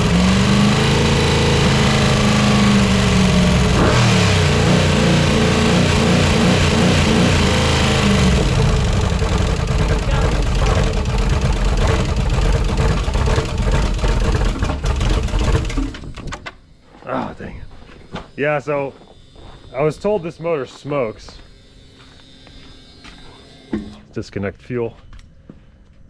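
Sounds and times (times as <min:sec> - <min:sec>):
car engine running on test stand: 0:00.0 - 0:16.7, 0:17.4 - 0:24.1.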